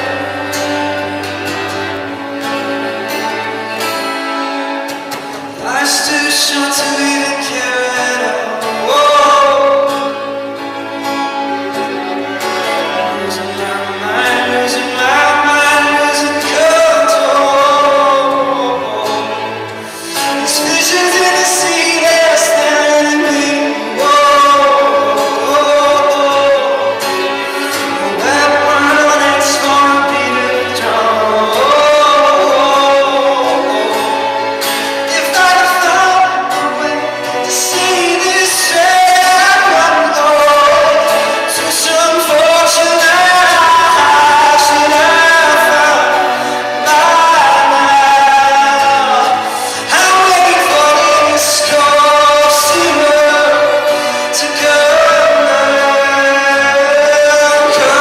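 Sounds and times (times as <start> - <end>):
instrumental accompaniment: 0.0 - 58.0
man singing: 0.0 - 58.0.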